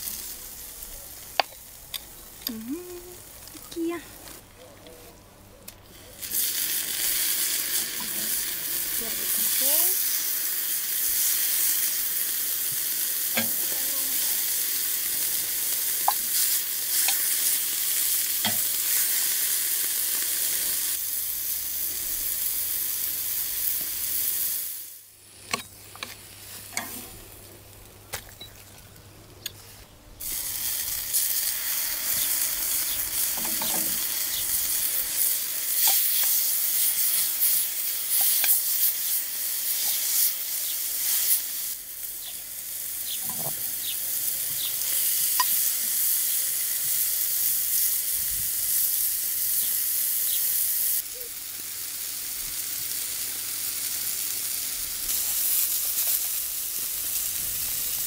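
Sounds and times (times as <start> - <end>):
steak sizzling on a grill: 0.0 - 4.6, 5.9 - 29.0, 30.2 - 58.0.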